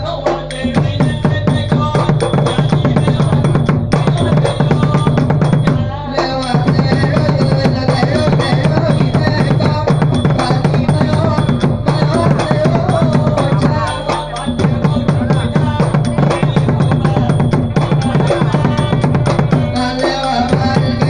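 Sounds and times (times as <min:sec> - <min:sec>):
fast dense drumming: 0:00.0 - 0:21.0
ringing metal percussion: 0:00.0 - 0:21.0
wavering melody: 0:00.0 - 0:21.0.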